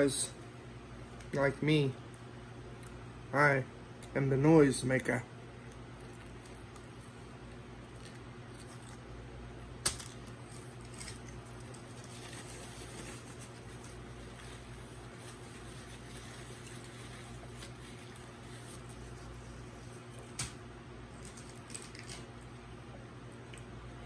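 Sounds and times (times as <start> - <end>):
electric fan humming: 0.0 - 24.0.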